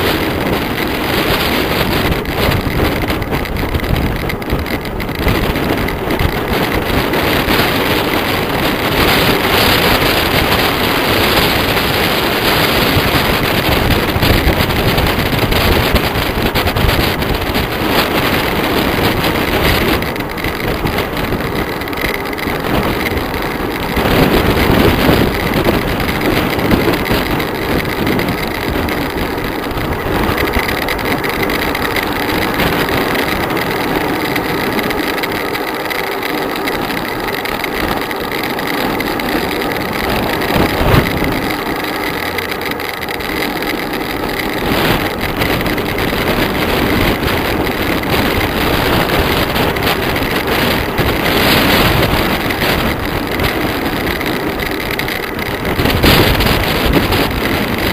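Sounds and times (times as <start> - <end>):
road noise: 0.0 - 57.9
wind buffeting microphone: 0.0 - 57.9.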